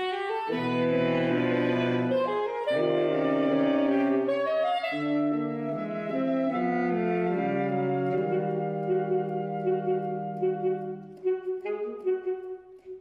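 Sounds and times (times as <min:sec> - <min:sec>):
saxophones playing held chords: 0:00.0 - 0:12.8.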